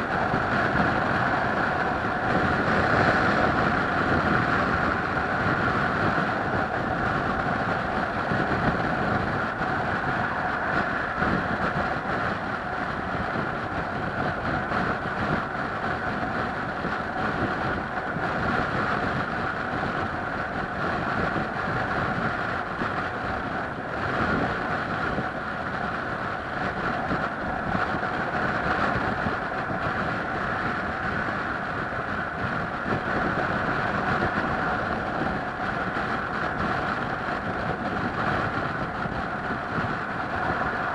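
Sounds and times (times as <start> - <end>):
vehicle running hum: 0.0 - 40.9
wind on microphone: 0.0 - 40.9.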